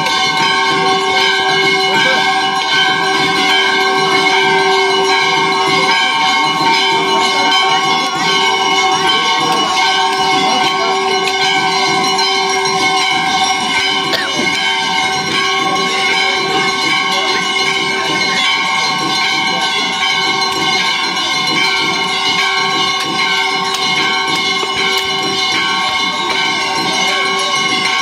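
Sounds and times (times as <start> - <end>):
bells ringing: 0.0 - 28.0.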